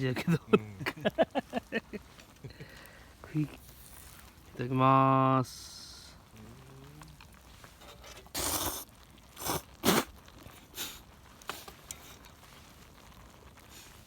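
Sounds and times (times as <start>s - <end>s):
noodles being slurped: 0.5s - 4.5s, 6.2s - 14.0s.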